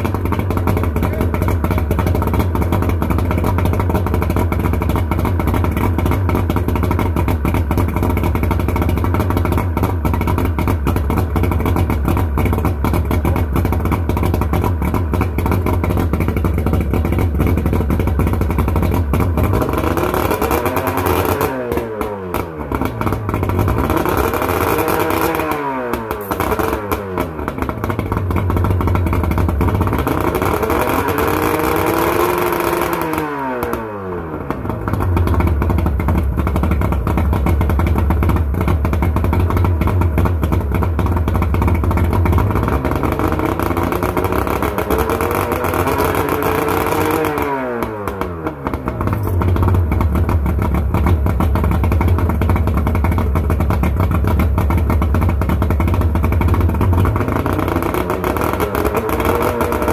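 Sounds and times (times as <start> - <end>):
outboard engine revving: 8.2 - 38.4, 41.9 - 59.9.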